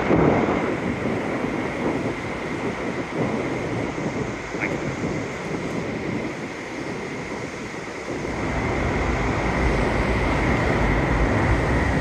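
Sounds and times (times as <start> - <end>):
rushing wind: 0.0 - 12.0.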